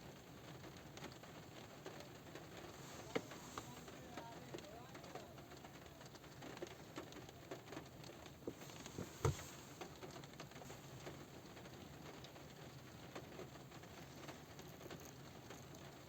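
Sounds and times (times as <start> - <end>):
rain pattering on car roof: 0.0 - 16.0.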